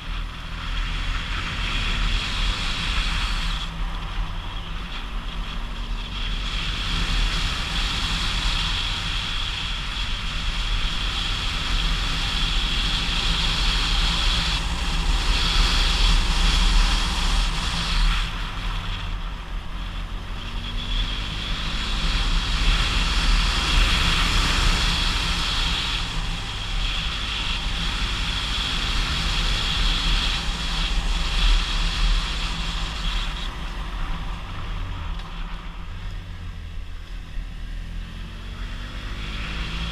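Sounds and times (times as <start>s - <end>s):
motorcycle engine running: 0.0s - 39.9s
wind rush on camera: 0.0s - 39.9s.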